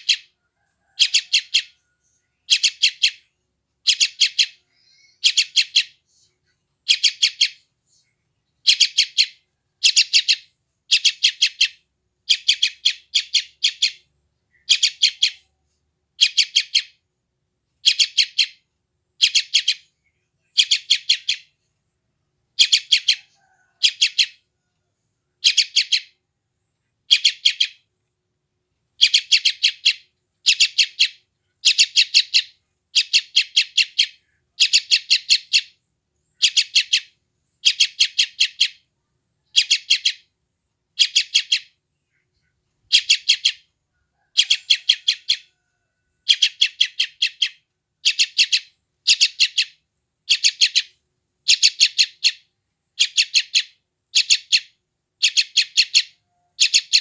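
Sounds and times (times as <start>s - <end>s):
bird chick calling: 0.0s - 6.0s, 6.8s - 7.7s, 8.6s - 15.6s, 16.2s - 17.0s, 17.8s - 18.6s, 19.2s - 21.6s, 22.6s - 26.2s, 27.0s - 27.9s, 29.0s - 40.3s, 41.0s - 57.0s.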